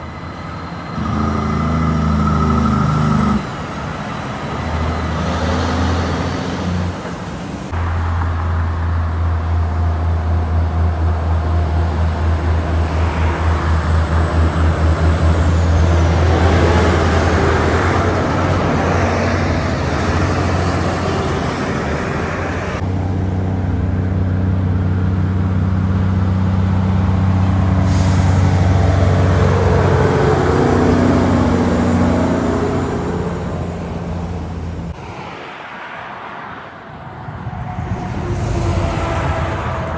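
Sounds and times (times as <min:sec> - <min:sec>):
diesel trucks driving past: 0:00.0 - 0:39.9.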